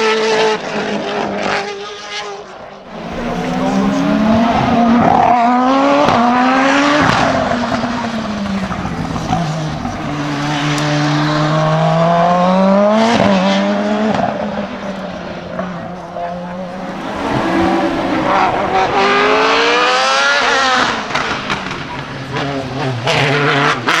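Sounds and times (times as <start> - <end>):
race car engine revving through gears: 2.8 - 24.0.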